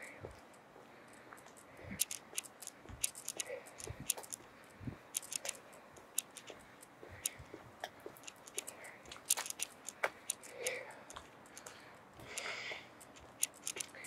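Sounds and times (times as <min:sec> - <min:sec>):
footsteps on concrete: 0:00.2 - 0:14.0
camera handling noise: 0:01.4 - 0:14.0.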